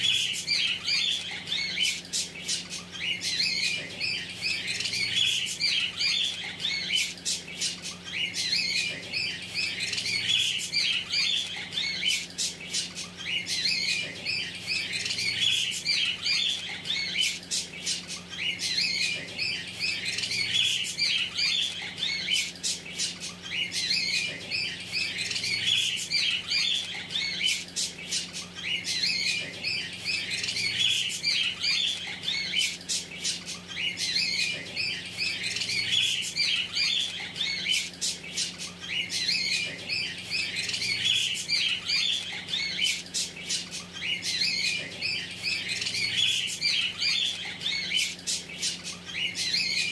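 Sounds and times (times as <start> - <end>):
budgerigars chattering: 0.0 - 49.9.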